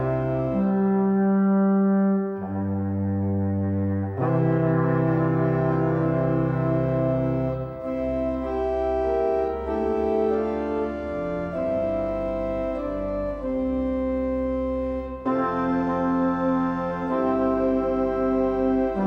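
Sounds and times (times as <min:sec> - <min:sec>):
organ playing sustained chords: 0:00.0 - 0:19.0.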